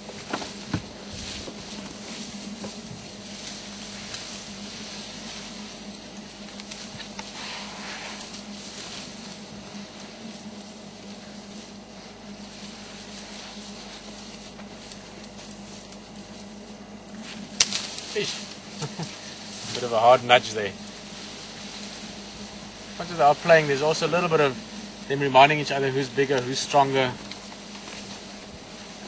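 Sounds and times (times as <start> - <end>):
leaves and branches rustling: 0.0 - 29.0
steady low hum: 0.0 - 29.0.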